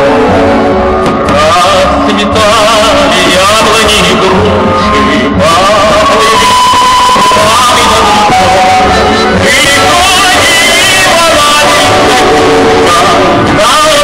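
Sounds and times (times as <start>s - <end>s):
man singing: 0.0s - 14.0s
music accompaniment: 0.0s - 14.0s.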